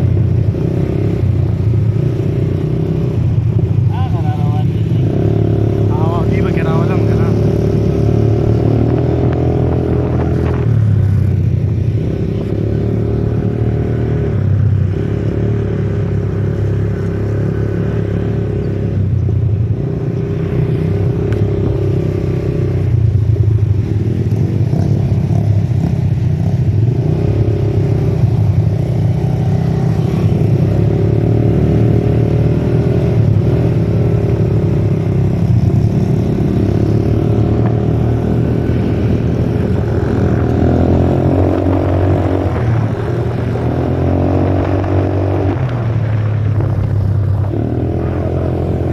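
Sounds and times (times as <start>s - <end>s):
atv engine revving: 0.0s - 48.9s.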